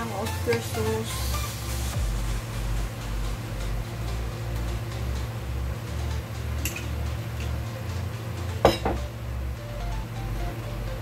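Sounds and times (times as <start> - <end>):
background music with bass and beat: 0.0 - 11.0.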